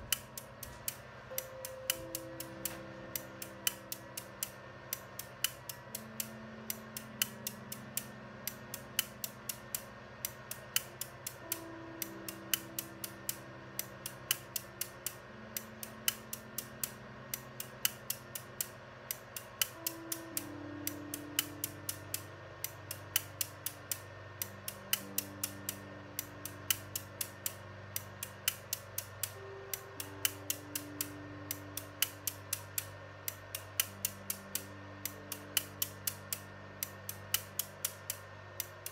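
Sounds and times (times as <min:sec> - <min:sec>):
low steady tones: 0:00.0 - 0:38.9
relays clicking: 0:00.0 - 0:38.9.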